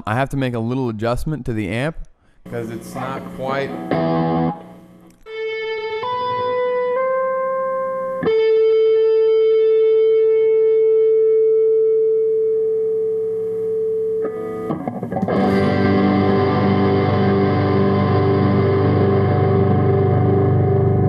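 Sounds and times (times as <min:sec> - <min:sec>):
electric guitar long held notes: 0:02.9 - 0:21.0.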